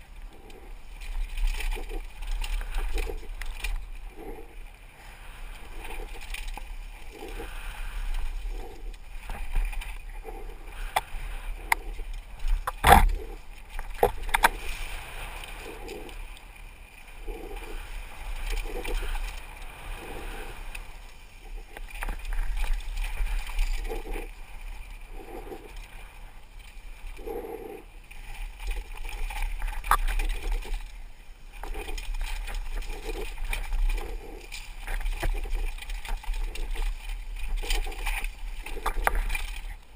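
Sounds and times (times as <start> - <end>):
bike rattling over bumps: 0.0 - 27.1, 28.2 - 39.9
wind and tyre noise: 0.0 - 39.9.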